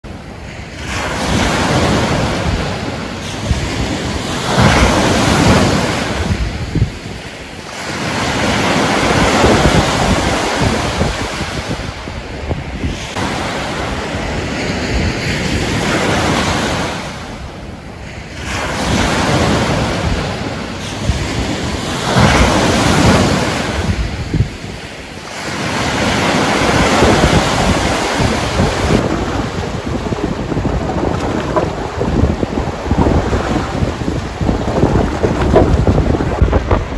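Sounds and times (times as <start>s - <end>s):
waves washing onto shore: 0.0s - 36.9s
wind: 0.0s - 36.9s.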